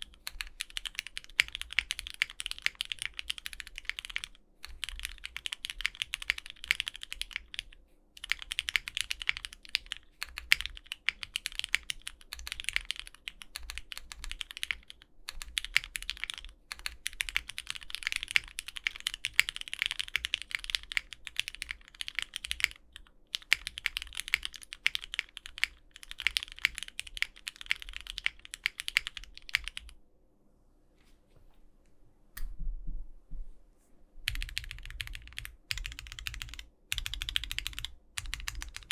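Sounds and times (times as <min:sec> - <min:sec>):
mechanical keyboard typing: 0:00.0 - 0:30.0, 0:34.3 - 0:38.9.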